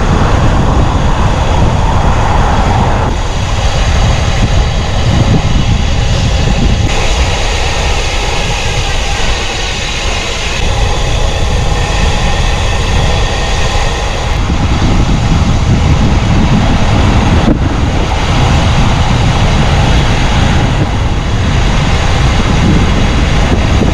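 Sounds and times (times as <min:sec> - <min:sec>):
vehicle rumble and rush: 0:00.0 - 0:23.9
wind buffeting microphone: 0:00.0 - 0:23.9.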